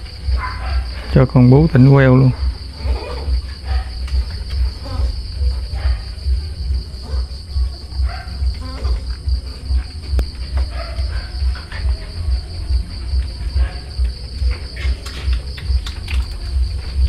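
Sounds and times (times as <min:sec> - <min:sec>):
crickets chirping: 0:00.0 - 0:17.0
low rhythmic thudding: 0:00.0 - 0:17.0.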